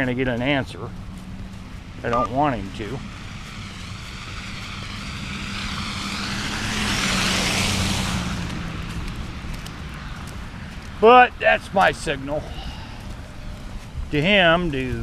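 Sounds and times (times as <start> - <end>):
steady low hum: 0.0 - 14.9
vehicle passing by: 0.0 - 15.0.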